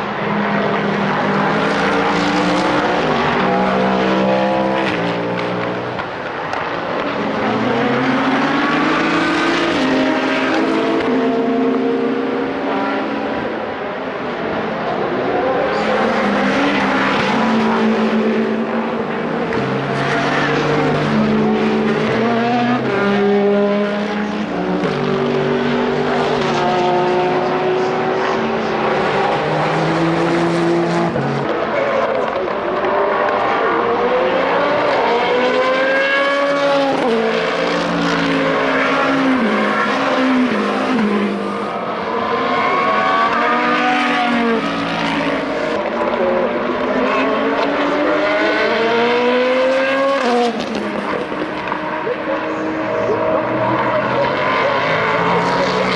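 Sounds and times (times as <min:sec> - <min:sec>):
racing car engines passing: 0:00.0 - 0:55.9.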